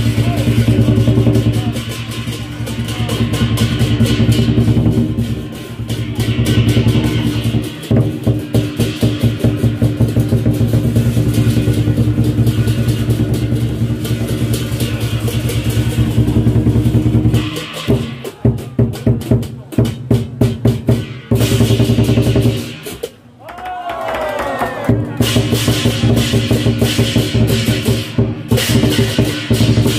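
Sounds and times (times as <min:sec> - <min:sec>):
hand cymbals clashing: 0:00.0 - 0:20.0, 0:25.2 - 0:29.9
large drum beating fast: 0:00.0 - 0:23.1, 0:24.9 - 0:29.9.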